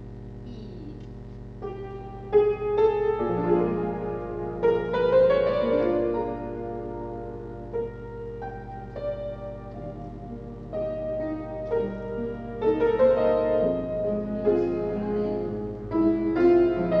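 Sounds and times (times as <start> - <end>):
piano playing: 1.6 - 17.0.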